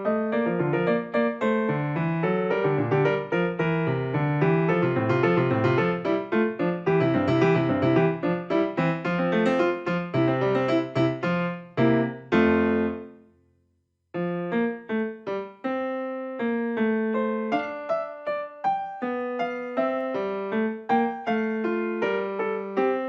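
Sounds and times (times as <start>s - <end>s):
piano music: 0.0s - 13.3s, 14.2s - 23.0s.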